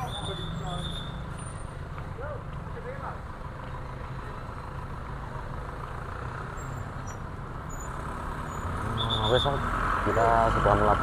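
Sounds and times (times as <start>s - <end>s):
cars and motorcycles running: 0.0s - 11.0s.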